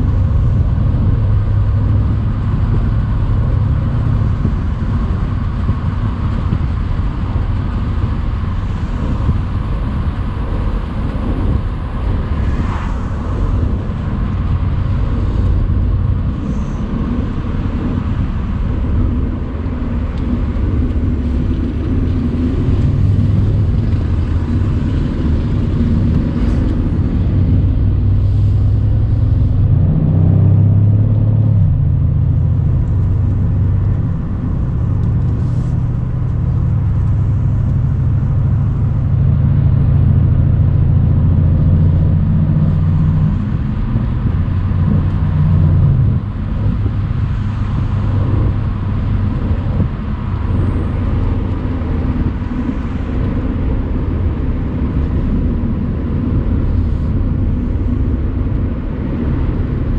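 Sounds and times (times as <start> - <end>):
car engine cruising: 0.0 - 59.9
road and wind noise: 0.0 - 59.9.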